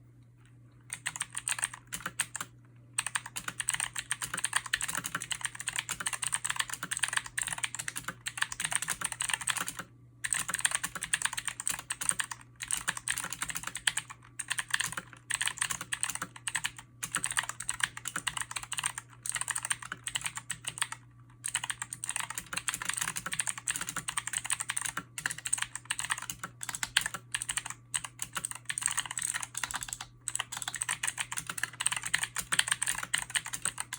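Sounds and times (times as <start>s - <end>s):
mechanical keyboard typing: 0.9s - 33.9s.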